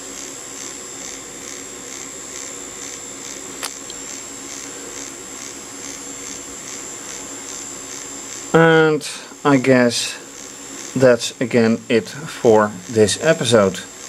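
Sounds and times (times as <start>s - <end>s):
small electric motor whirring: 0.0s - 14.0s.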